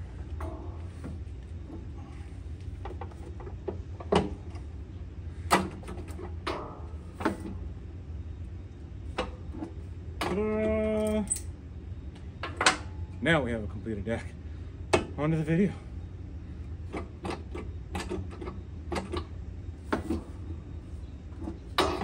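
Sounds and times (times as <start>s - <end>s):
steady pitched hum: 0.0s - 22.0s.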